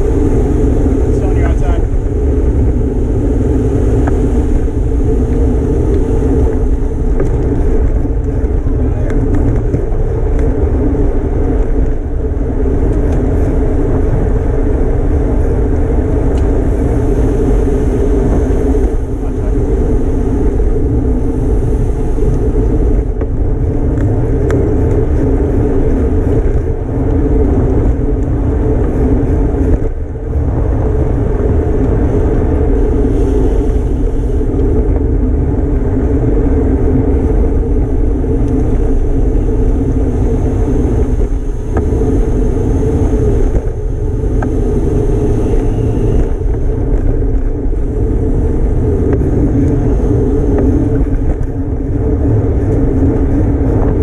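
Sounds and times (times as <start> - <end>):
tyre and road noise: 0.0 - 54.0
wind rushing over microphone: 0.0 - 54.0.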